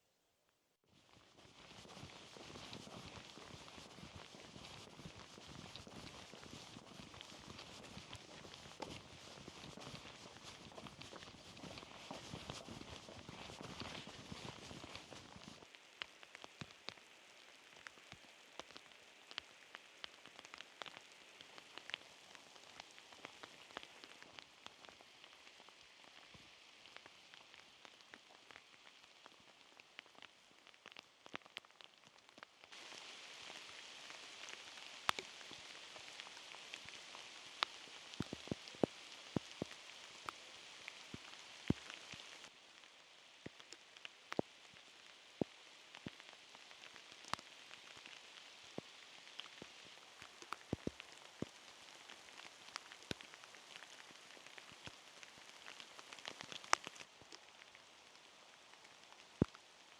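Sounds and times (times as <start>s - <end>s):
rain falling: 0.9s - 59.9s
raindrops ticking close by: 1.0s - 59.9s.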